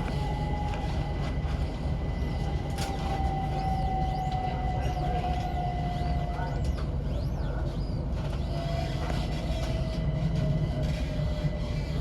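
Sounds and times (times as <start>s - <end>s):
electric train rumble and motor whine: 0.0s - 12.0s.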